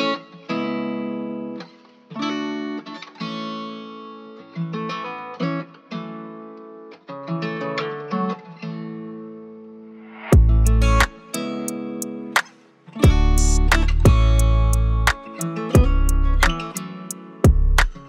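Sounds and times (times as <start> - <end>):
acoustic guitar music: 0.0 - 18.0.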